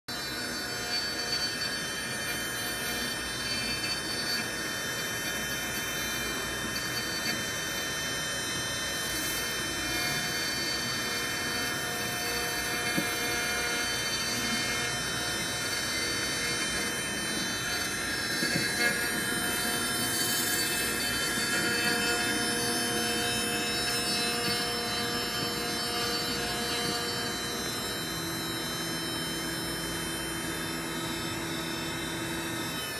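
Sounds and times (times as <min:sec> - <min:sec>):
spindle whine: 0:00.1 - 0:32.9.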